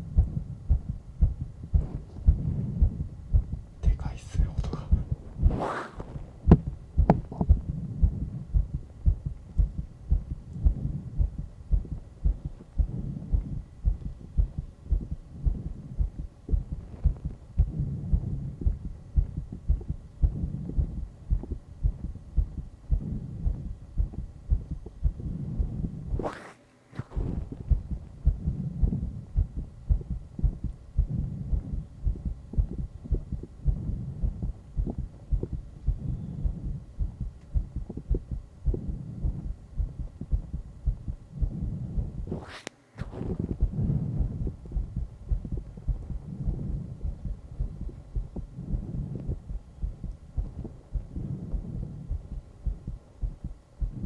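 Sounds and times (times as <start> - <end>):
rapid heartbeat thumps: 0.0 - 26.4, 27.0 - 54.0.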